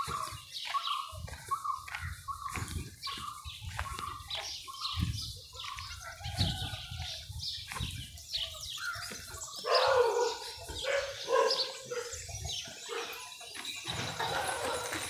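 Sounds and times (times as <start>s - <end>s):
birds chirping: 0.0s - 15.0s
footsteps on a path: 0.0s - 15.0s.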